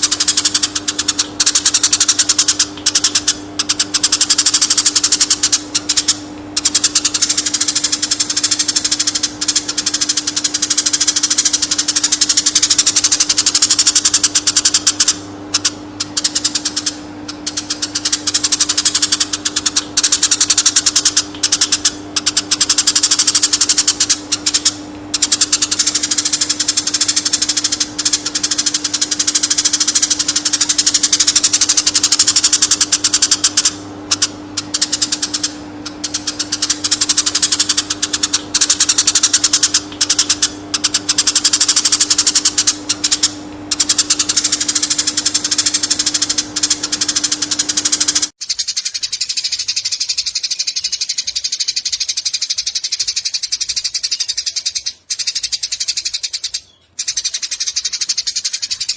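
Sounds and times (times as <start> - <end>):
sparrow chirping rapidly: 0.0 - 58.9
steady low hum: 0.0 - 58.9.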